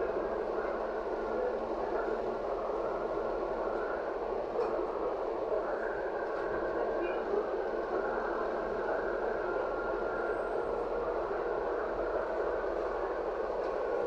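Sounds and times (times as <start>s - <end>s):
trolleybus running noise: 0.0s - 14.0s.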